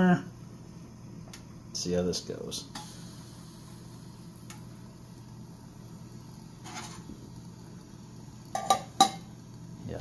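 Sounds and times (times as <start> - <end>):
faint indoor hum: 0.0 - 10.0.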